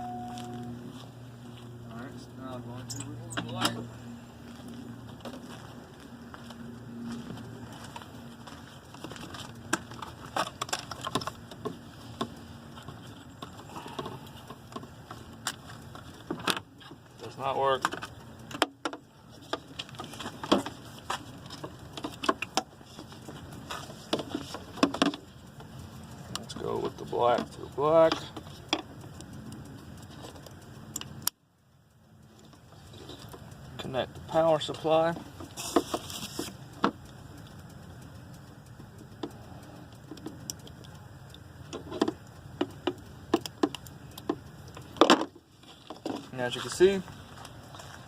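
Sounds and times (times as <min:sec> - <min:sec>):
wires and plastic connectors clicking: 0:07.2 - 0:48.0.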